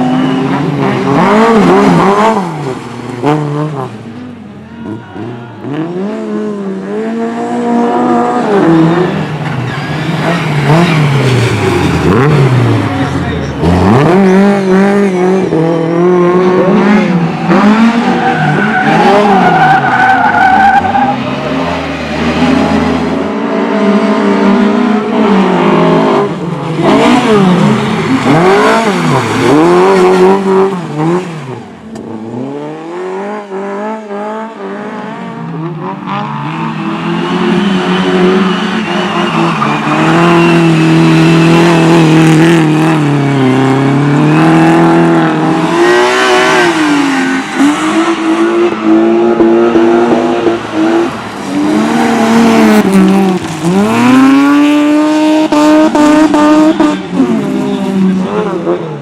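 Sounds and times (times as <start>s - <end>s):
race car engines revving: 0.0s - 59.0s
tyres skidding: 0.0s - 59.0s.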